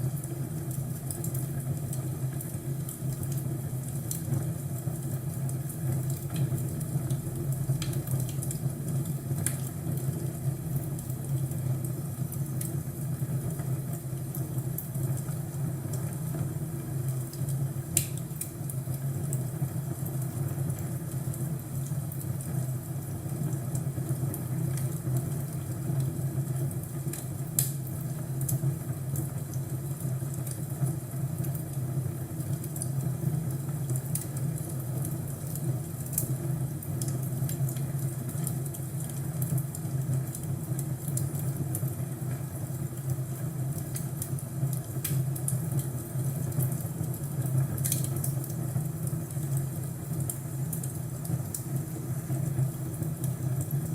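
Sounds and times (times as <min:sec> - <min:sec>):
fire popping and snapping: 0:00.0 - 0:53.9
fireplace crackling: 0:07.8 - 0:53.9.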